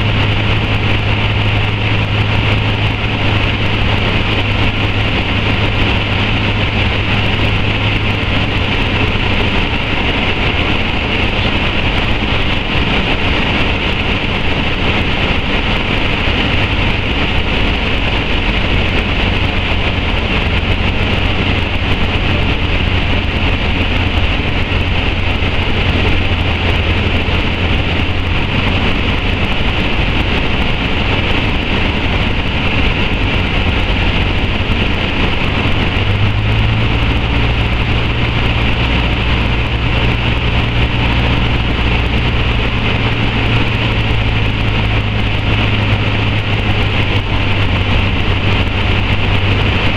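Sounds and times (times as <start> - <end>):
air rushing past: 0.0 - 49.9
light aircraft engine droning: 0.0 - 49.9.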